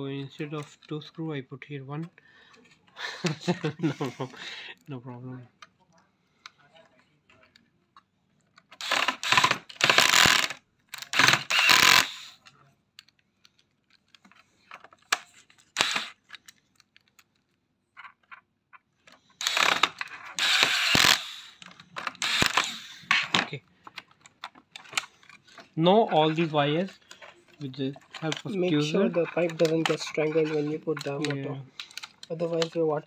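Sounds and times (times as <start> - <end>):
plastic parts clattering and scraping: 2.0 - 4.5, 8.4 - 33.0.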